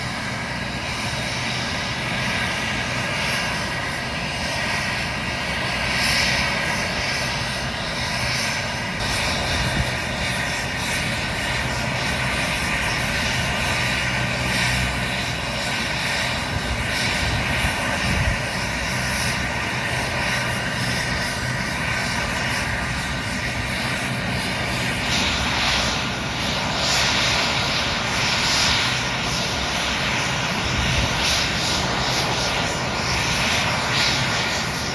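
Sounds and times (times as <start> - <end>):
helicopter rotor noise: 0.0 - 34.9
turbine whine: 0.0 - 34.9.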